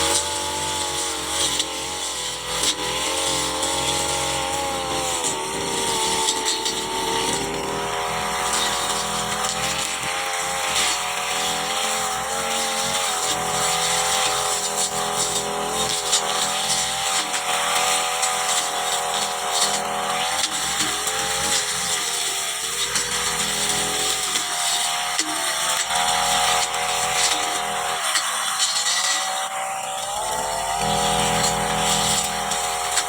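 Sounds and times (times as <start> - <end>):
petrol brush cutter running: 0.0 - 33.0.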